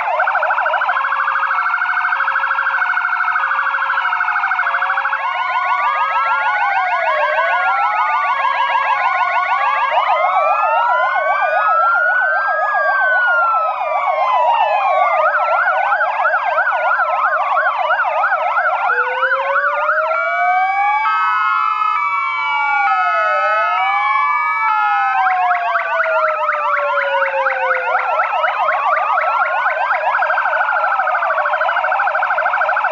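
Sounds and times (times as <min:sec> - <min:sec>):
two-tone hi-lo siren: 0:00.0 - 0:32.9
wailing sirens: 0:00.0 - 0:32.9
yelping sirens: 0:00.0 - 0:32.9.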